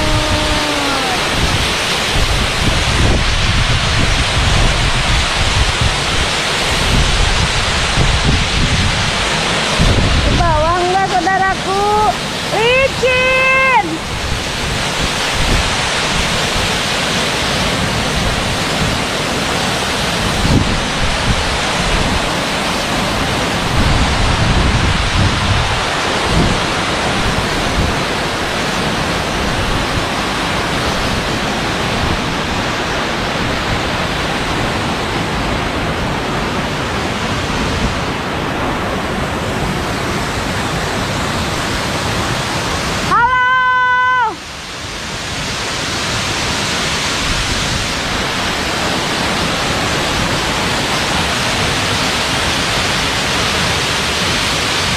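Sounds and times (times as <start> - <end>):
waterfall roaring: 0.0 - 54.9.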